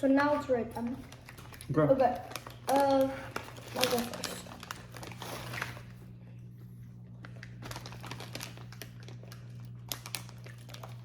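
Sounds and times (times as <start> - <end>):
steady low hum: 0.0 - 11.0
plastic bag crinkling: 0.7 - 6.2, 7.1 - 11.0.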